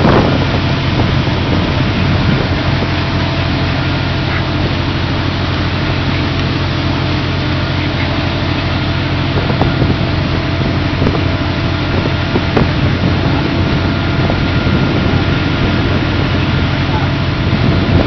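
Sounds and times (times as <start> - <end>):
deck machinery droning: 0.0 - 18.0.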